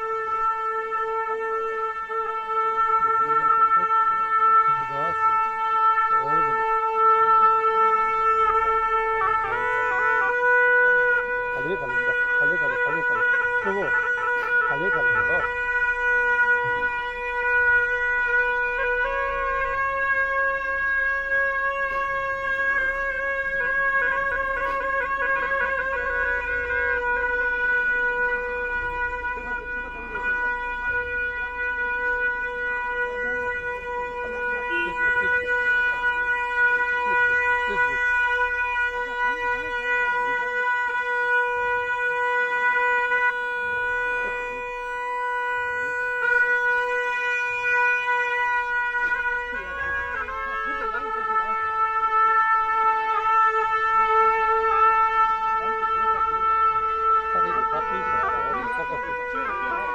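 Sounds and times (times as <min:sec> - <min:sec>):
long wind instrument note: 0:00.0 - 0:59.9.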